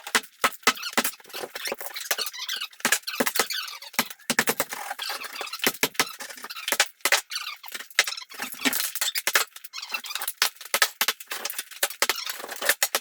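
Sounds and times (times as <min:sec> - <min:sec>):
sharp knocks and cracks: 0:00.0 - 0:02.2, 0:02.8 - 0:04.8, 0:05.6 - 0:13.0.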